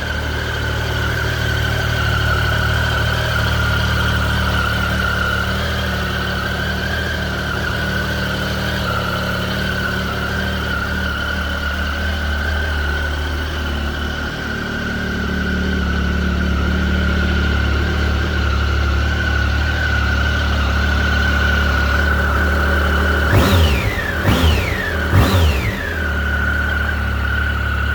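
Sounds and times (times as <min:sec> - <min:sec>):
engine revving: 0:00.0 - 0:27.9
motorcycle engine idling: 0:00.0 - 0:27.9.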